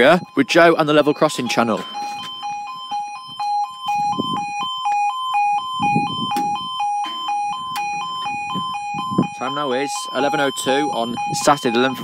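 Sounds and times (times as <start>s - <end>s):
level crossing two-tone alarm: 0.0s - 12.0s.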